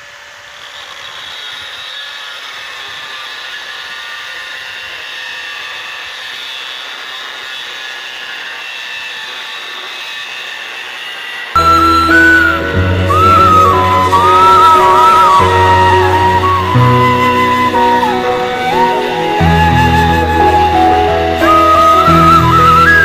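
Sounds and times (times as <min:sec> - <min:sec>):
grinder disc whining: 0:00.0 - 0:23.0.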